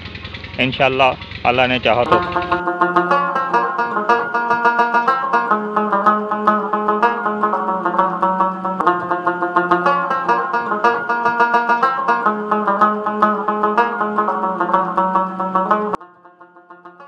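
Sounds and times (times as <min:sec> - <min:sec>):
fast plucked string tune: 0:00.0 - 0:17.0.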